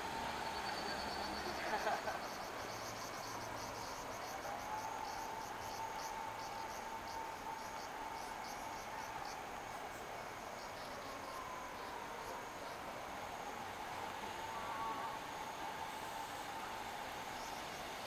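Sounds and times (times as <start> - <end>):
night insects chirping: 0.0 - 18.0.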